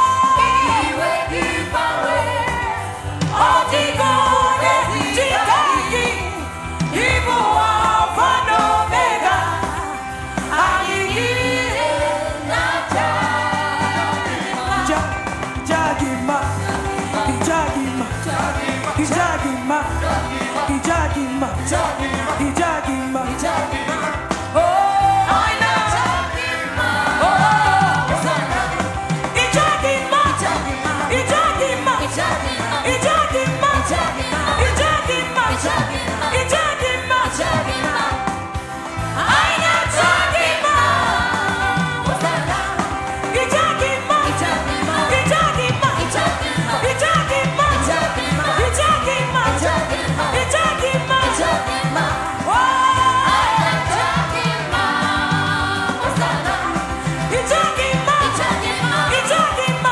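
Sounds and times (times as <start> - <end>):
gospel singing with band: 0.0 - 59.9.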